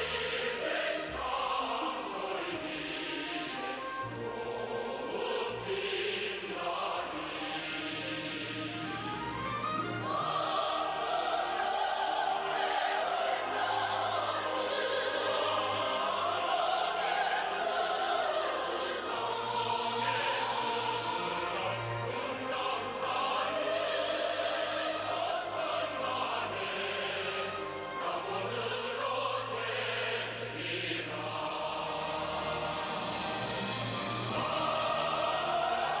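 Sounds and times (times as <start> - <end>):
choir singing: 0.0 - 36.0.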